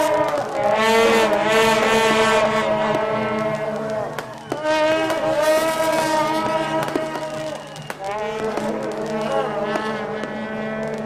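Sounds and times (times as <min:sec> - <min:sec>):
horns blowing long held notes: 0:00.0 - 0:11.0.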